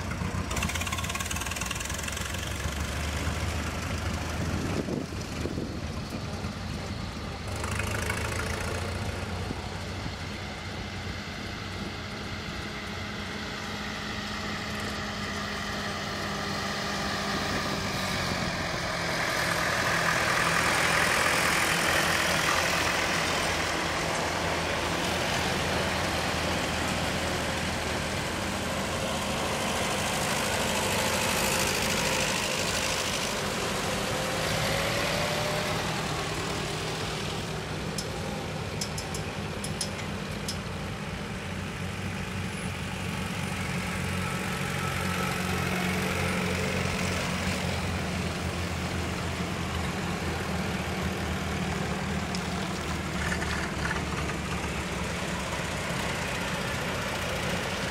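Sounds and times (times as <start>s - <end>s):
tractor engines passing: 0.0s - 57.9s.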